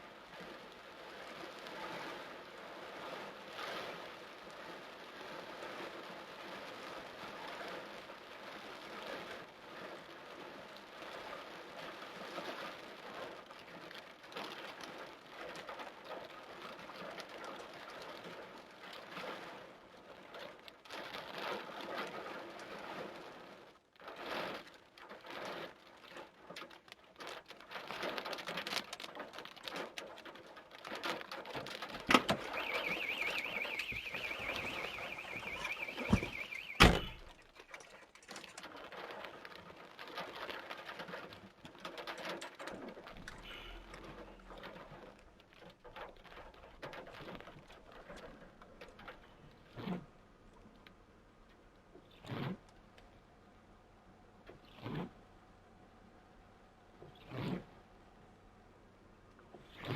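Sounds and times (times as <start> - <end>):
torrential rain drumming on surfaces: 0.0 - 59.9.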